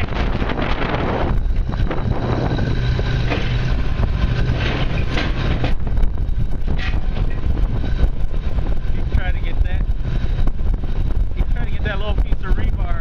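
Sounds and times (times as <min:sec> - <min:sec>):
diesel engine droning: 0:00.0 - 0:13.0
rumbling clatter: 0:00.0 - 0:13.0.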